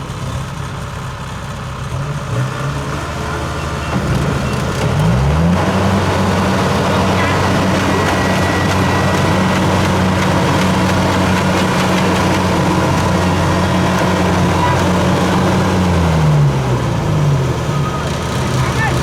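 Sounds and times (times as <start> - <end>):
diesel engine running hard: 0.0 - 19.0.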